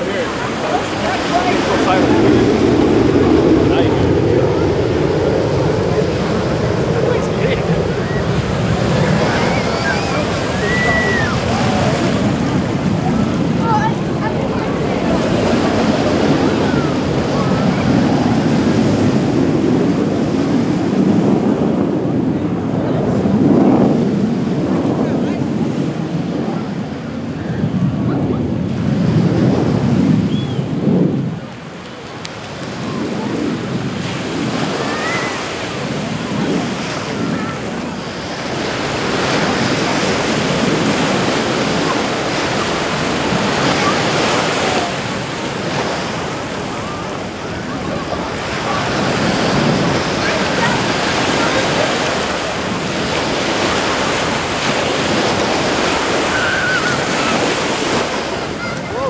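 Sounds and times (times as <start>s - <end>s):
jet engines roaring overhead: 0.0s - 59.0s
surf: 0.0s - 59.0s
wind on microphone: 0.0s - 59.0s.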